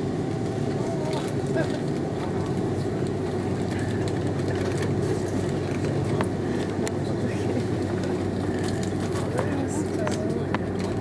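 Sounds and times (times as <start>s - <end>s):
aircraft engine hum: 0.0s - 11.0s.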